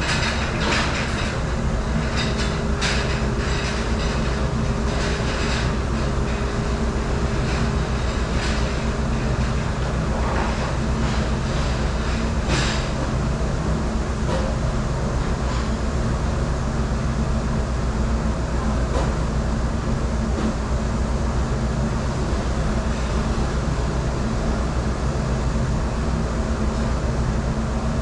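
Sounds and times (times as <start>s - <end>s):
machinery drone with hum: 0.0s - 28.0s.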